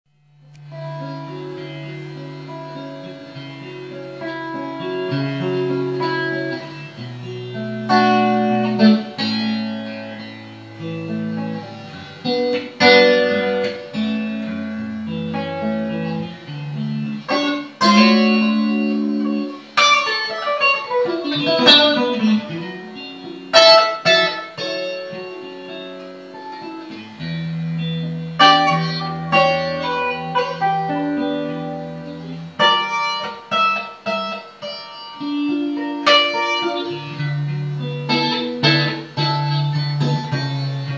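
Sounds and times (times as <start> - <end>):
clean electric guitar: 0.1 - 40.9.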